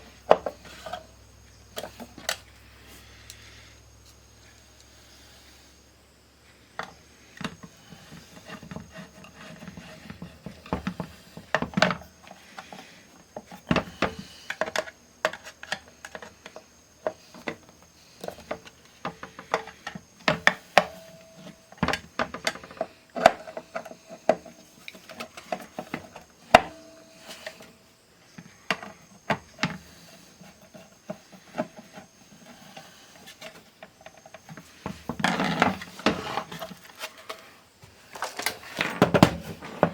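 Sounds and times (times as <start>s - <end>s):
small parts and tools clattering: 6.8s - 27.8s, 28.4s - 39.9s.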